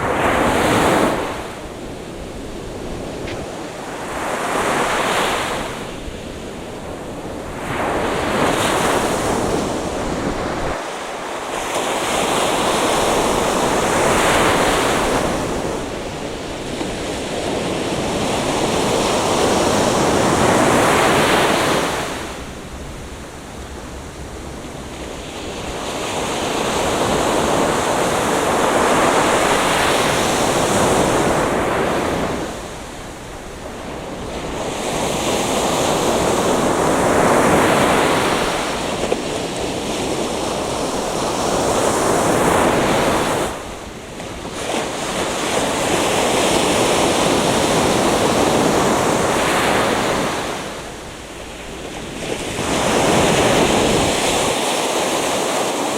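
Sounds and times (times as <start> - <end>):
surf breaking on beach: 0.0 - 55.9.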